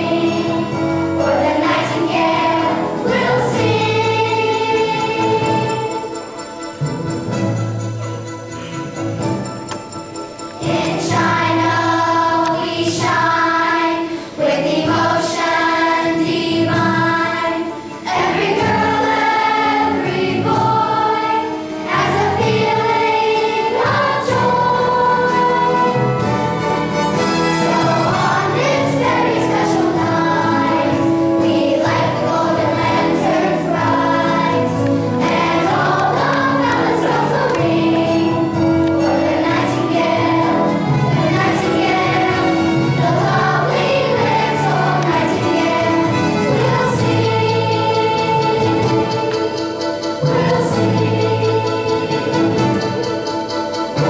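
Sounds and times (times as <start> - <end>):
choir singing: 0.0 - 6.8, 10.6 - 54.0
instrumental accompaniment: 0.0 - 54.0.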